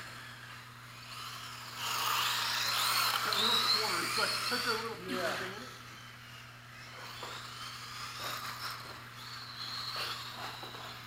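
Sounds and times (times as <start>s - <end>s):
electric rc car motors whining: 0.0s - 11.0s.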